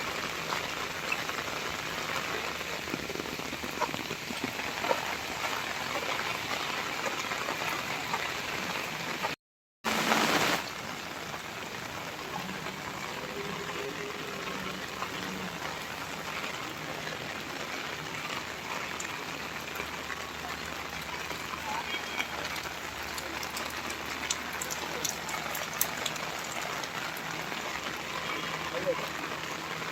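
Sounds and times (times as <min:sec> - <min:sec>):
rain pattering: 0:00.0 - 0:29.9.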